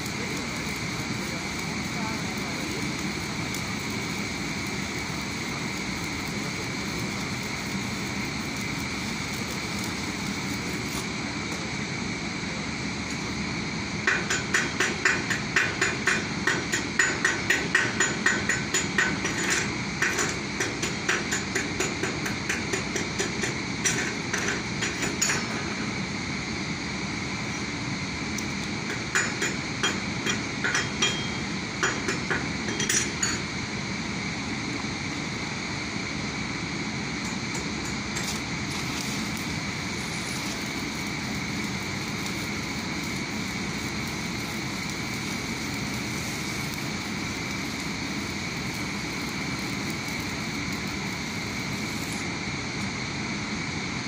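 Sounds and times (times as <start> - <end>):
stick welding arc crackling: 0.0 - 25.9, 28.3 - 35.9, 37.0 - 53.4.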